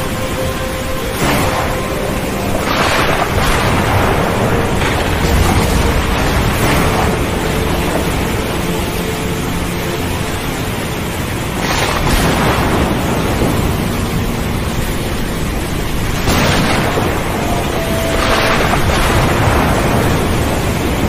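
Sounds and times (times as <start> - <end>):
waves surging and breaking: 0.0 - 21.0.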